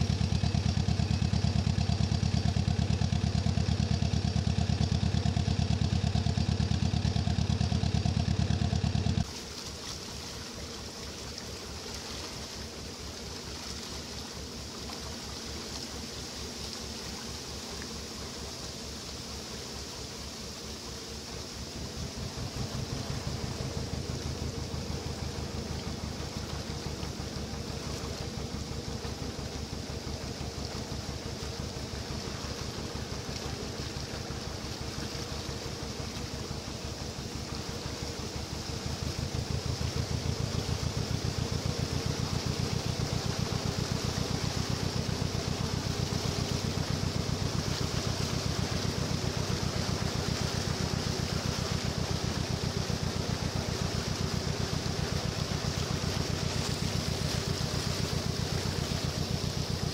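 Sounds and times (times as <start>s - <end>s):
boat engine beating rhythmically: 0.0s - 59.9s.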